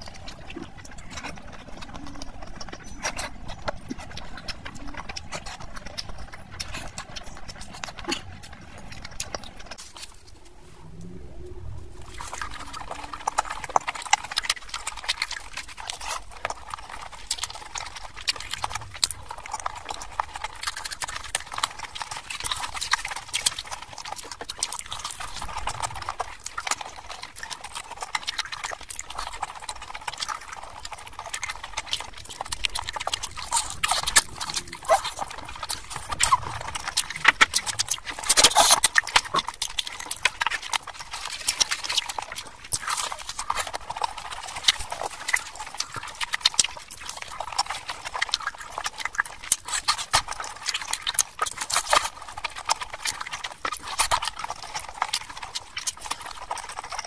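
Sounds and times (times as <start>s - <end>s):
chewing and mouth sounds: 0.0s - 57.0s.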